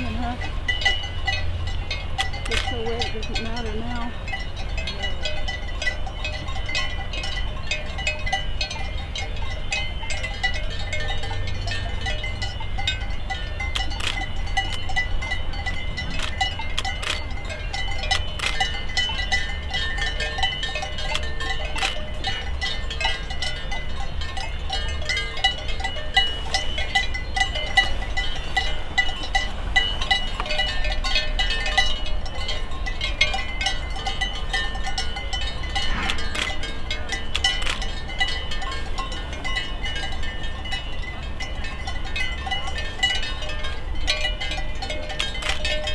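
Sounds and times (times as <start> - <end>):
cowbells clanking: 0.0 - 45.9.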